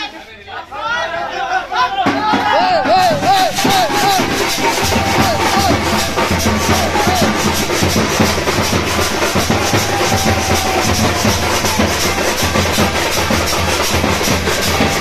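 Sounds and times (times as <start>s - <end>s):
loud drum-led music: 1.9s - 15.0s.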